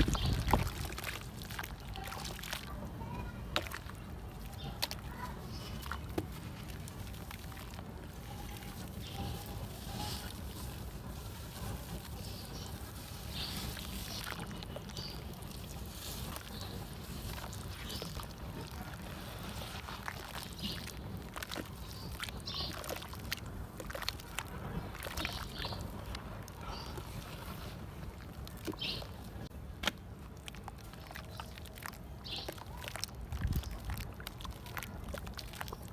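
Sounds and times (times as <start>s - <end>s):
dirt crumbling in water: 0.0s - 35.9s
small water sloshes: 0.0s - 35.9s.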